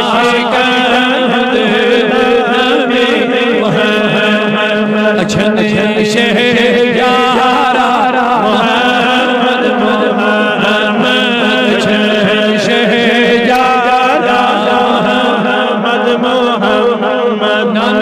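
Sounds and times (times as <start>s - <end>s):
men chanting: 0.0s - 18.0s.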